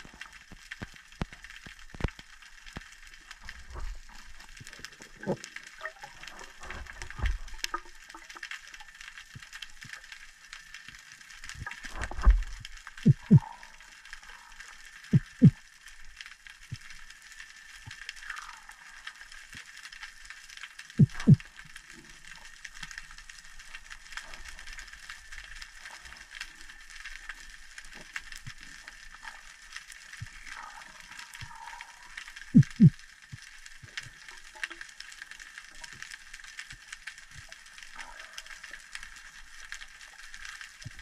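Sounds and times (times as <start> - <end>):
underwater crackling hiss: 0.0 - 41.0.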